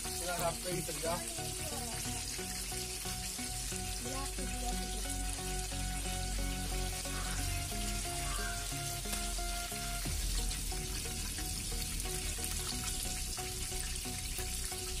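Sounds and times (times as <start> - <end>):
background music with held notes: 0.0 - 15.0
chicken deep-frying in oil: 0.0 - 15.0.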